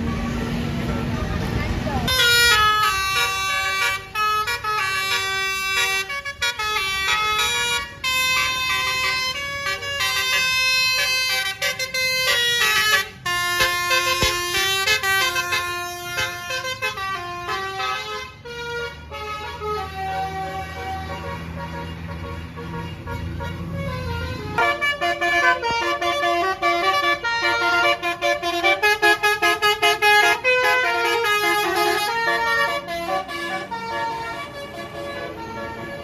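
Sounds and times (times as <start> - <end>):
bus multi-tone air horn melody: 2.0 - 36.0.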